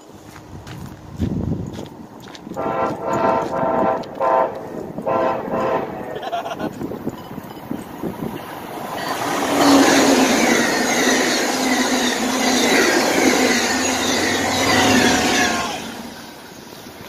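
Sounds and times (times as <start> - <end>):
passenger train passing at speed: 0.0 - 17.0.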